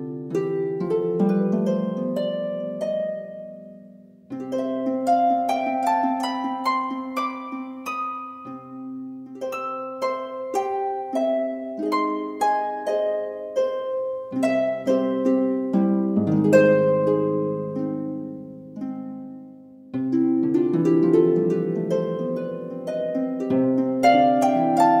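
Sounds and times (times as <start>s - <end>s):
plucked harp music: 0.0s - 25.0s.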